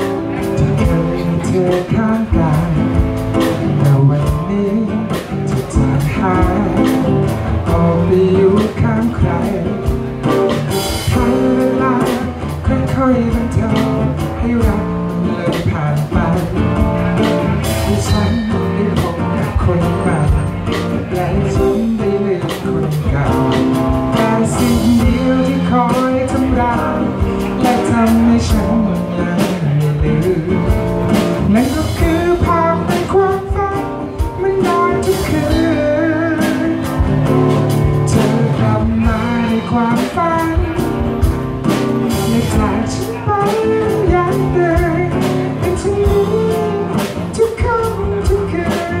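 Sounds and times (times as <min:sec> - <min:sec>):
drum kit beat: 0:00.0 - 0:49.0
strummed acoustic guitar: 0:00.0 - 0:49.0.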